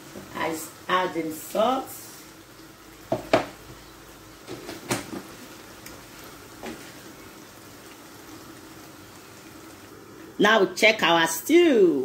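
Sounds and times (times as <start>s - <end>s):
stew bubbling in a pan: 0.0s - 12.0s.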